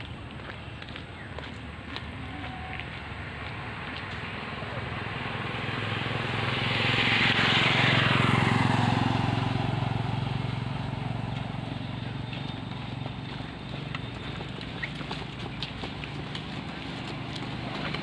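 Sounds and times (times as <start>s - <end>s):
motorcycle passing by: 1.9s - 18.0s.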